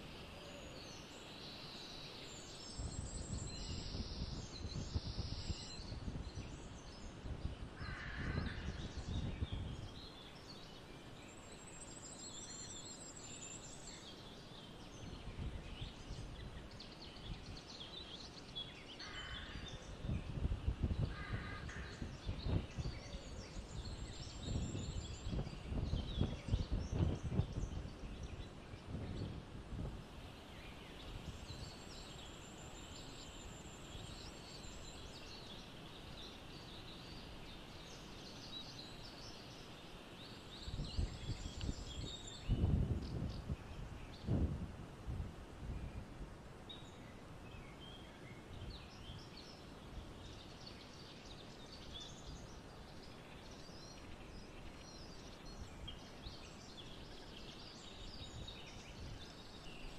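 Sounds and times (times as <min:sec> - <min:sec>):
songbirds trilling and chirping: 0:00.0 - 0:59.9
wind rumble on microphone: 0:02.4 - 0:14.1, 0:14.8 - 0:32.3, 0:40.5 - 0:59.9.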